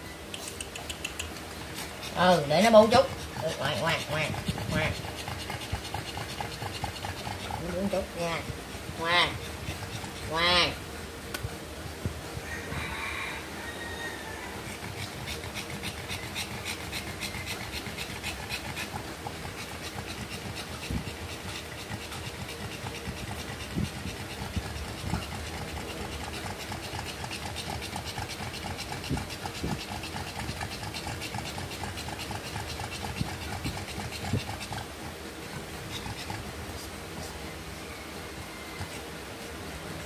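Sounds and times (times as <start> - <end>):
dog panting rapidly: 0.4 - 10.8, 14.6 - 37.6, 38.2 - 40.0.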